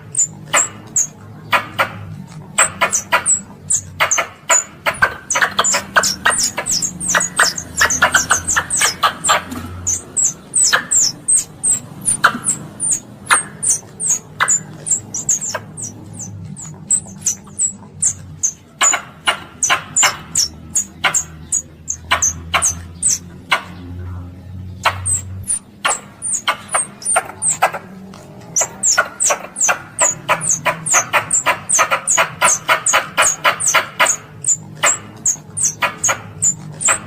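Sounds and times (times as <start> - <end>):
squirrel chattering and chirping: 0.0 - 37.0.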